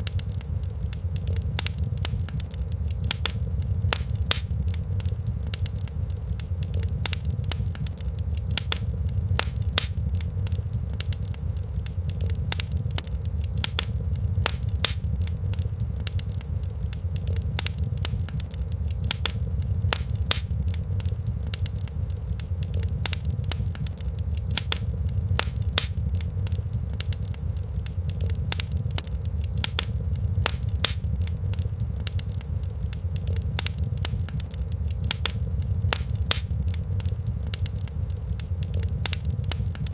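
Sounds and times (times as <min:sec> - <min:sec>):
low rumble: 0:00.0 - 0:39.9
wood fire crackling and popping: 0:00.0 - 0:39.9.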